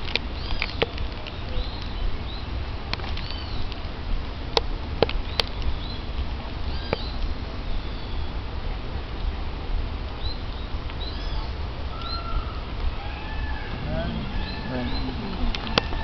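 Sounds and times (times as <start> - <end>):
birds chirping: 0.0 - 3.8, 5.1 - 8.4, 10.1 - 16.0
steady low rumble: 1.0 - 16.0.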